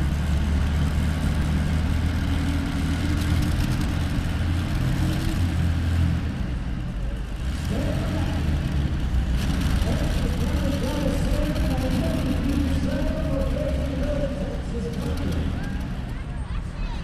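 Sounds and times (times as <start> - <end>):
aircraft engine idling: 0.0 - 16.8.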